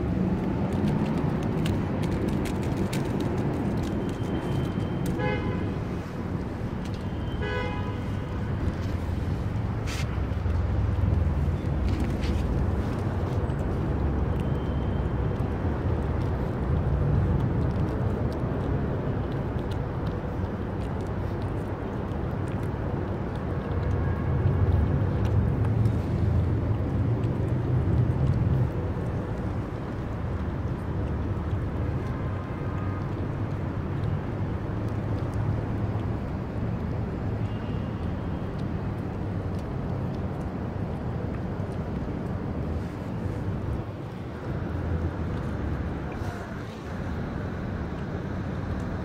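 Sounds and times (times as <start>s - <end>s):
low outdoor rumble: 0.0s - 49.0s.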